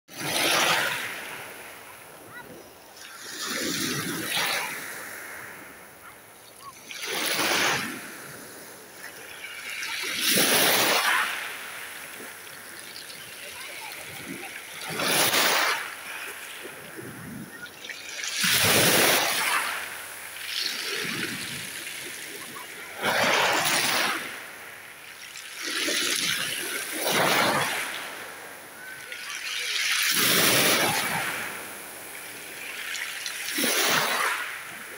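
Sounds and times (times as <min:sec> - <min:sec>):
small sea waves washing in: 0:00.1 - 0:34.9.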